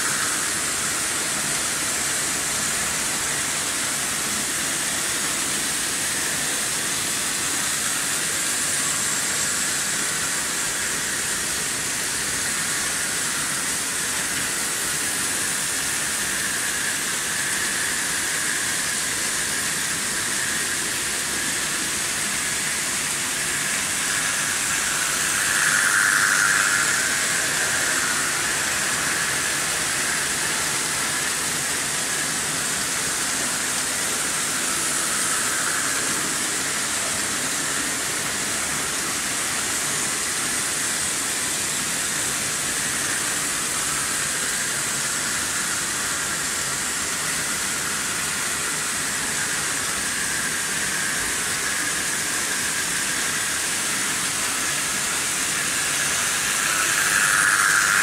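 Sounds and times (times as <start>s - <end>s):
model trains whirring on track: 0.0s - 58.0s.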